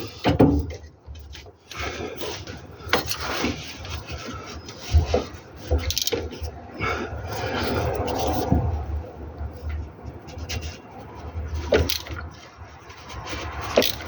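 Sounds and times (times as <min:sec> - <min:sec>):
scraping and rubbing on car parts: 0:00.0 - 0:14.0.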